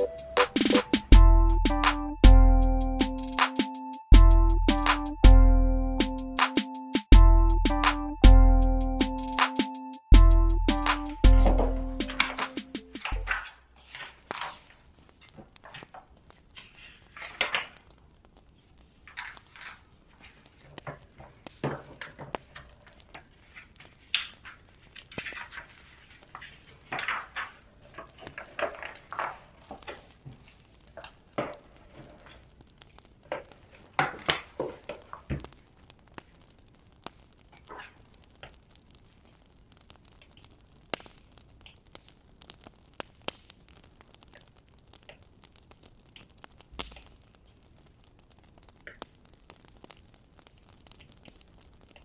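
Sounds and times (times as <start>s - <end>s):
wood fire crackling: 0.0s - 5.1s, 6.0s - 52.0s.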